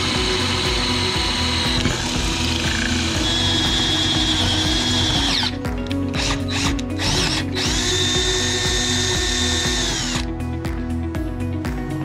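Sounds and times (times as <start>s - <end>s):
drill press whining: 0.0s - 10.3s
background music with steady beat: 0.0s - 12.0s.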